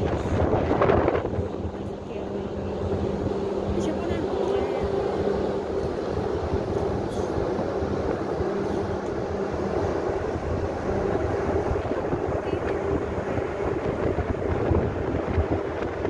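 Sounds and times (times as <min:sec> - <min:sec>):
low hum: 0:00.0 - 0:16.0
machinery rumbling and droning: 0:00.0 - 0:16.0.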